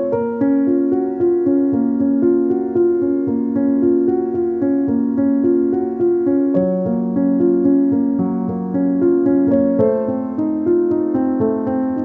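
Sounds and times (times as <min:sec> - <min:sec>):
keyboard music: 0:00.0 - 0:12.0.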